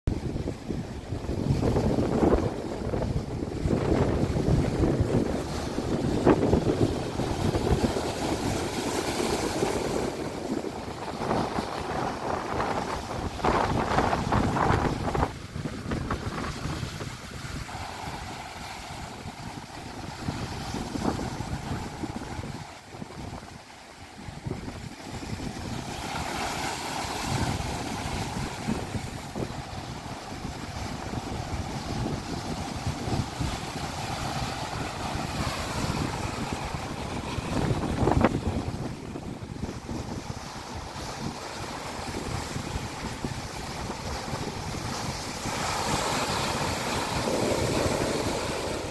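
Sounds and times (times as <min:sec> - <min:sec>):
waves breaking on rocks: 0:00.1 - 0:48.9
wind buffeting microphone: 0:00.1 - 0:48.9.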